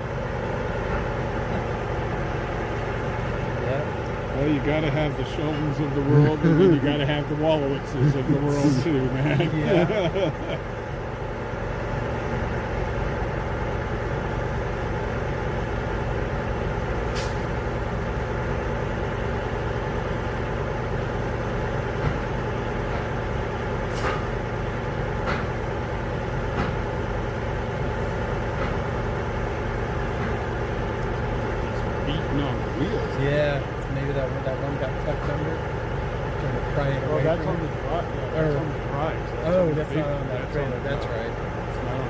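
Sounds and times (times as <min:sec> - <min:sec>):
heavy vehicle engine idling: 0:00.0 - 0:42.0.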